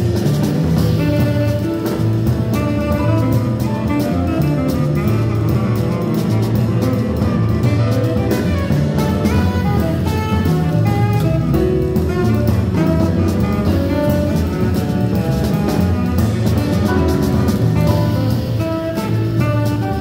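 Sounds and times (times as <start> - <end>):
drum kit with cymbals: 0.0 - 20.0
piano: 0.0 - 20.0
upright bass: 0.0 - 20.0
tenor saxophone melody: 0.8 - 20.0.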